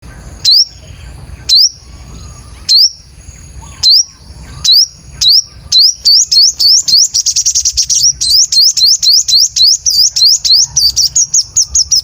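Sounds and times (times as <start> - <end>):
sunbird high upward chirp: 0.0 - 12.0.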